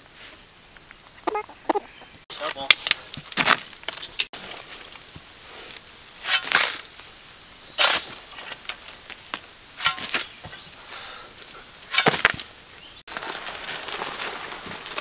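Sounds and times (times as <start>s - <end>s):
shovel scraping gravelly soil: 2.3s - 15.0s.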